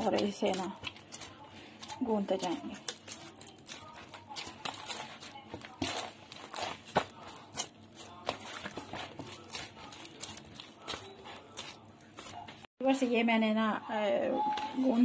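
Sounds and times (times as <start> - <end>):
hands kneading wet dough: 0.0 - 12.7.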